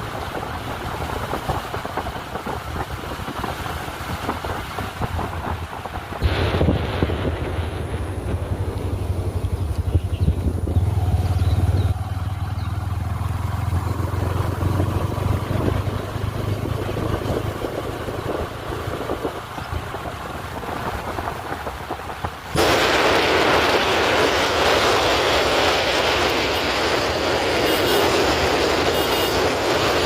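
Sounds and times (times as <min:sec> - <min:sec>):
loud steady rushing noise: 0:00.0 - 0:30.0
motorcycle engine: 0:00.0 - 0:30.0
road noise: 0:00.0 - 0:30.0.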